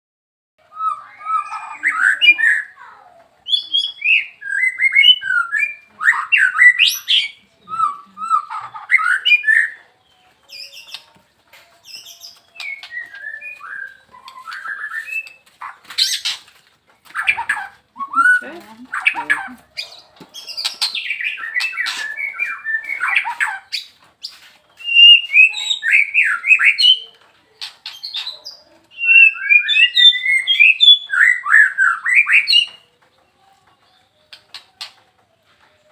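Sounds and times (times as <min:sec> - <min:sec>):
bird singing whistles and chatter: 0:00.7 - 0:02.8, 0:03.4 - 0:16.4, 0:17.1 - 0:32.9.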